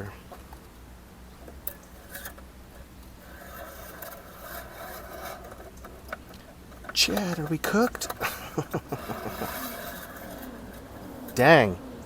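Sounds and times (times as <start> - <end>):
low steady hum: 0.0 - 12.0
metal dipstick rubbing and scraping: 0.3 - 11.7.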